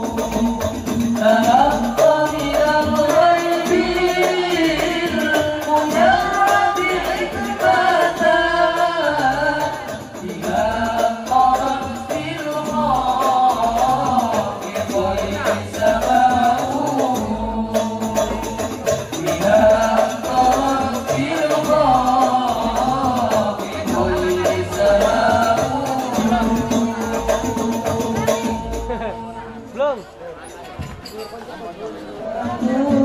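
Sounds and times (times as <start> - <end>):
frame drums beating: 0.0 - 29.3
devotional singing: 0.0 - 29.8, 32.1 - 33.0.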